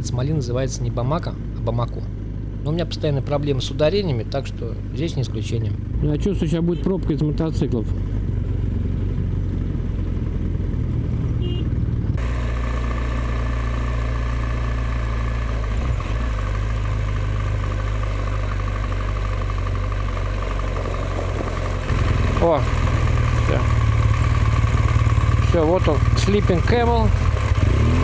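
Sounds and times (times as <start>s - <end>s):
motorcycle engine running: 1.4s - 28.0s.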